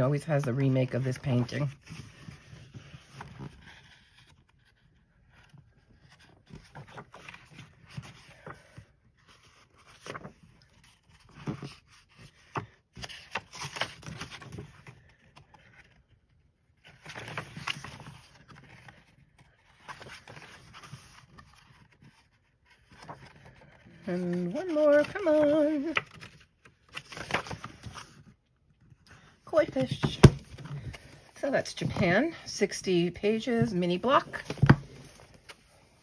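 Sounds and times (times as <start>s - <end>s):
paper pages rustling: 0.0s - 32.4s, 33.2s - 36.0s.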